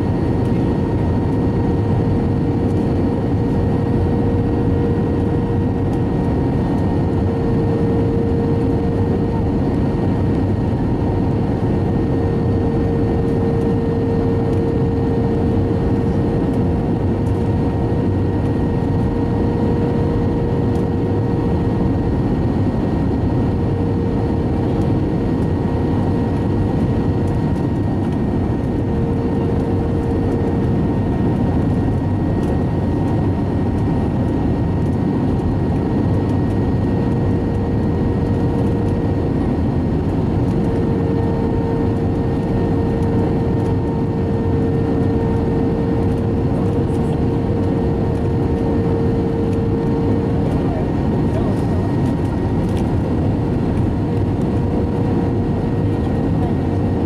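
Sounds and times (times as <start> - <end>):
jet engines roaring: 0.0 - 57.0
steady hum: 0.0 - 57.0.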